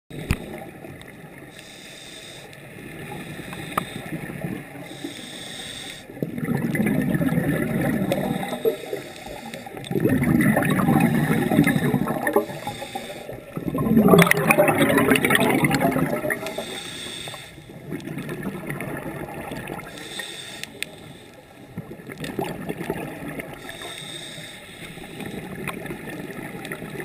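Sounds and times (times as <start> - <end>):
regulator air bubbling underwater: 0.1 - 27.0.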